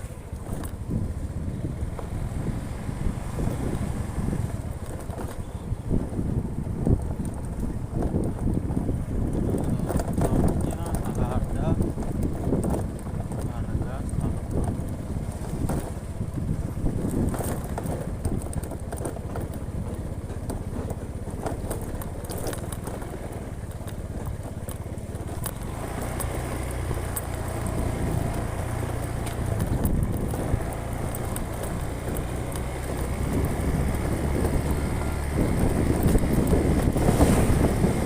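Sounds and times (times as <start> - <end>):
vehicle engine hum: 0.0 - 38.0.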